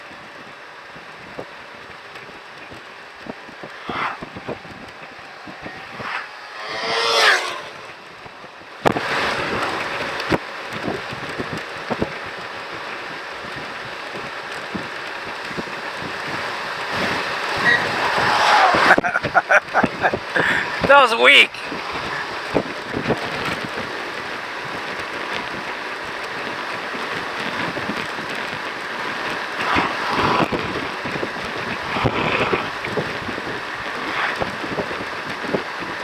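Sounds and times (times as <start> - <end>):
road noise: 0.0 - 36.0
wind noise: 0.0 - 36.0.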